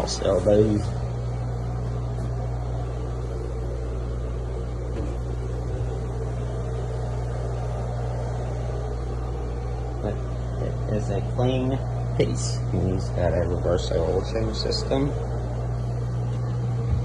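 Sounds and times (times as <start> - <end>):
low mechanical hum of machinery: 0.0 - 17.0.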